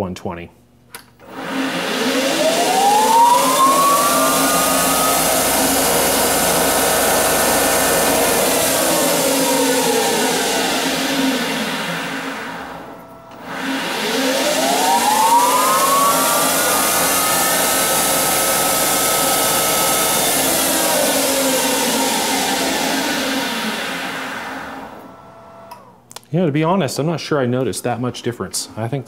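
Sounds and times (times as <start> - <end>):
lathe motor spinning with whine: 1.2 - 25.9.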